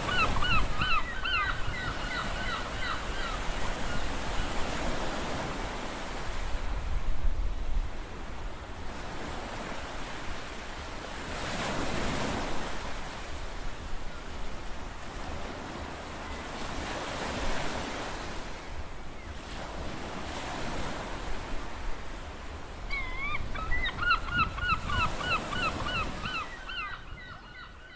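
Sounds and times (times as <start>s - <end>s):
sea waves washing ashore: 0.0s - 27.2s.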